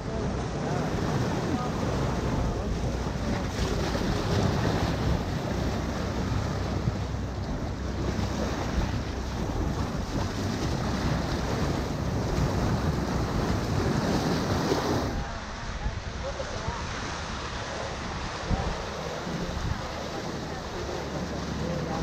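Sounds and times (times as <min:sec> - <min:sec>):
river water rushing and splashing: 0:00.0 - 0:22.0
wind buffeting microphone: 0:00.0 - 0:22.0.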